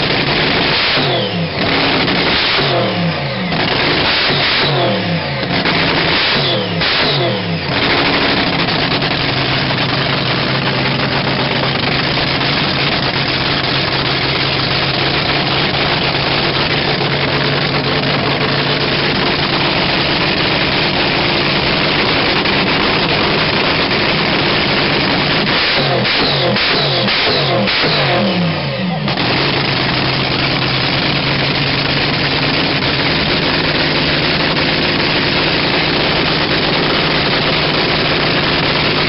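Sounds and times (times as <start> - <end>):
dragster engine revving and idling: 0.0 - 39.0.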